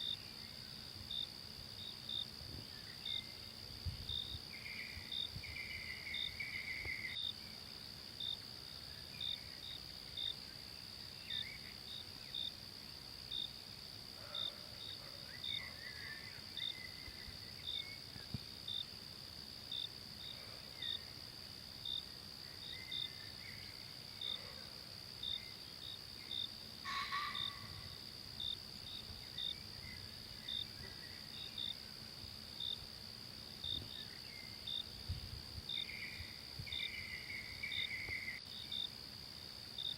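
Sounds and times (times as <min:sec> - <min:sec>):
cricket chirping: 0:00.0 - 0:39.9
insect drone: 0:00.0 - 0:39.9.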